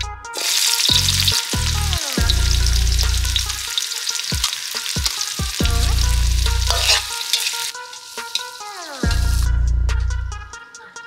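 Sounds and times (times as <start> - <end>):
onions sizzling in hot oil: 0.4 - 9.5.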